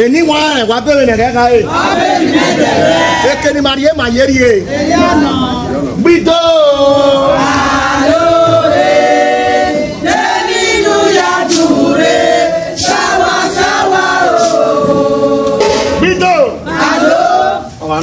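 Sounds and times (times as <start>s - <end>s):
group singing long notes: 1.6s - 3.4s, 4.7s - 5.9s, 6.5s - 17.9s.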